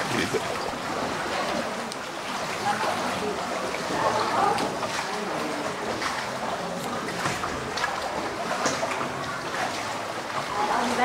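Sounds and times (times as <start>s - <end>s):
oars splashing: 0.0s - 11.0s
water lapping around a boat: 0.0s - 11.0s.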